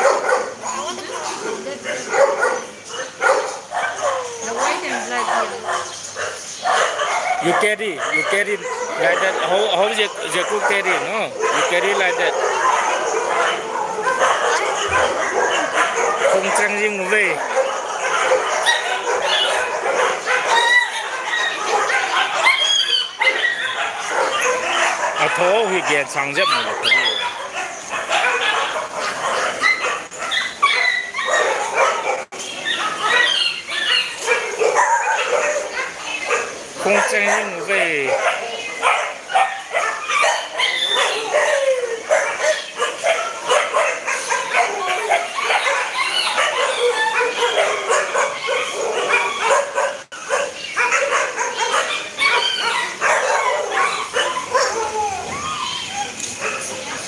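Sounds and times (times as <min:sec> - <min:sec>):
puppies yipping and whimpering: 0:00.0 - 0:57.0.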